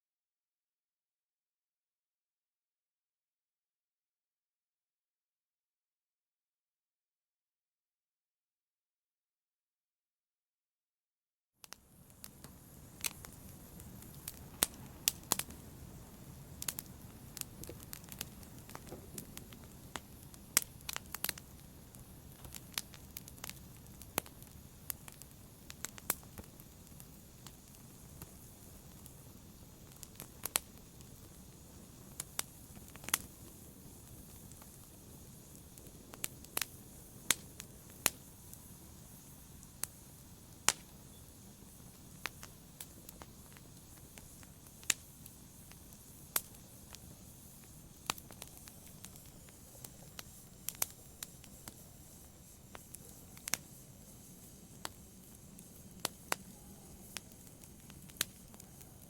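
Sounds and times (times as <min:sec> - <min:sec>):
faint steady hiss: 0:11.6 - 0:59.0
wood fire crackling: 0:11.6 - 0:59.0.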